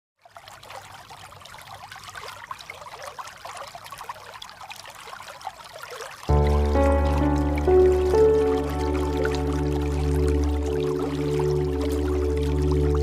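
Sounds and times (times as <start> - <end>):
river water flowing and gurgling: 0.2 - 13.0.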